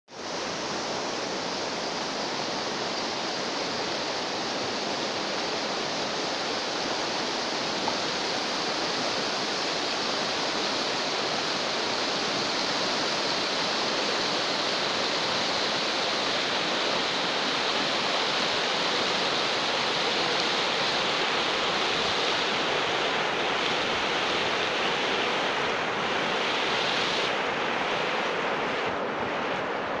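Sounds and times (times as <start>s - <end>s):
river rushing over rocks: 0.1s - 30.0s.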